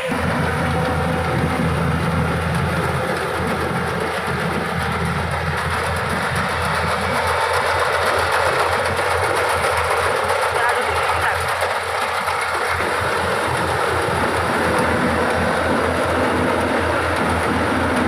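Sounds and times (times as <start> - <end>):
combine harvester clattering: 0.0 - 18.0.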